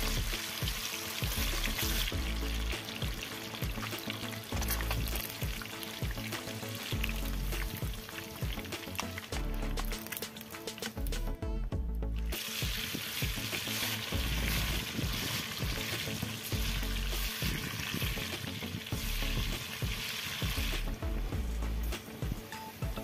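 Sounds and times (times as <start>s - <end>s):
hot oil sizzling and bubbling: 0.0s - 11.3s, 12.2s - 23.0s
background music: 0.0s - 23.0s.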